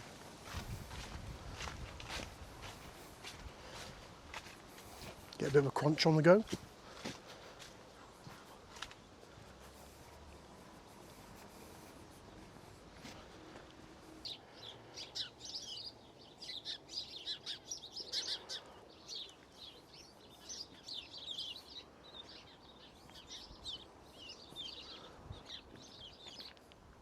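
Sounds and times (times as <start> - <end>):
small birds twittering: 0.5 - 27.0.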